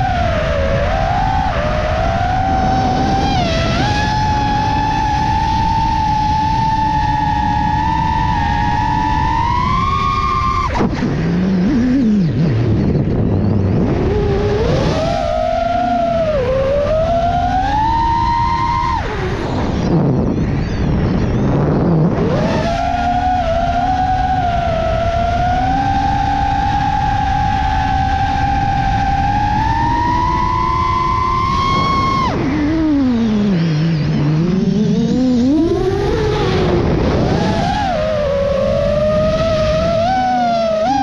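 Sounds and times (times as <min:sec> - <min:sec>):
quadcopter motors whining: 0:00.0 - 0:41.0
wind rumble on microphone: 0:00.0 - 0:41.0.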